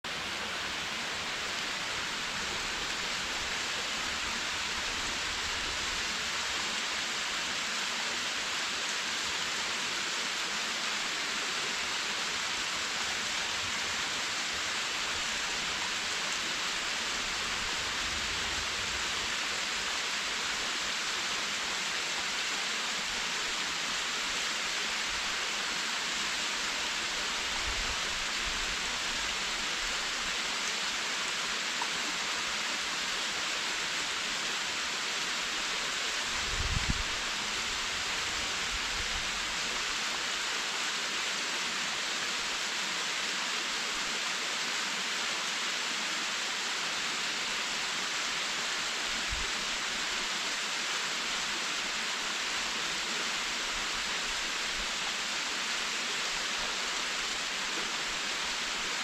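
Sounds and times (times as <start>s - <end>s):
waterfall rushing and splashing: 0.1s - 59.0s.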